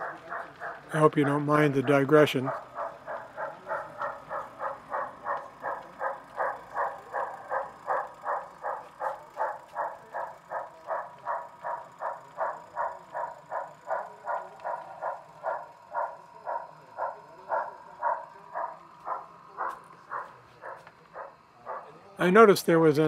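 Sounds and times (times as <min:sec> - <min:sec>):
model steam locomotive chuffs: 0:00.0 - 0:23.0.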